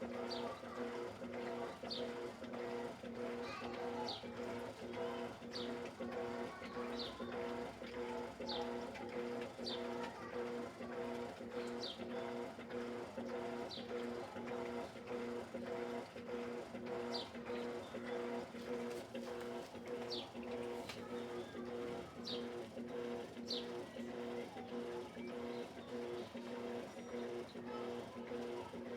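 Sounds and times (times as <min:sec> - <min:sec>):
washing machine agitator humming: 0:00.0 - 0:28.9.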